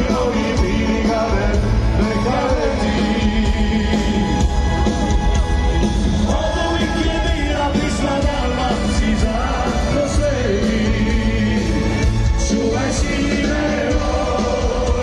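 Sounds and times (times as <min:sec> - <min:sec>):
live band with singing: 0:00.0 - 0:15.0.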